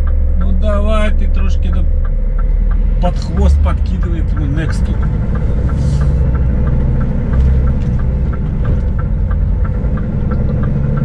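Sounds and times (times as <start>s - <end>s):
light regular ticking: 0.0s - 11.0s
truck diesel engine rumbling: 0.0s - 11.0s.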